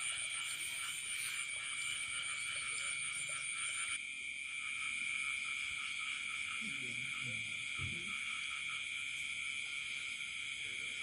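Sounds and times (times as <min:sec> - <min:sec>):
high-pitched frog and insect trills: 0:00.0 - 0:11.0.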